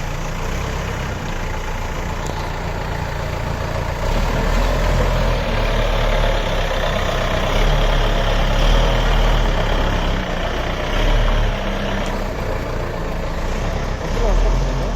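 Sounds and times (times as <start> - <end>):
diesel engine rumbling: 0.0 - 14.9.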